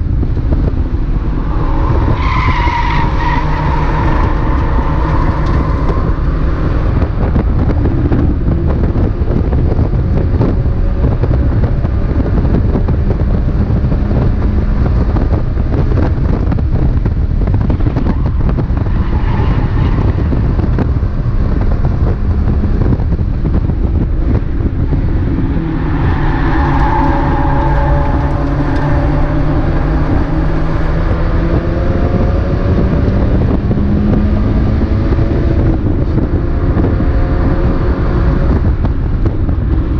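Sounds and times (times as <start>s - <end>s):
race car engine under load: 0.0s - 39.9s
wind and road noise: 0.0s - 39.9s.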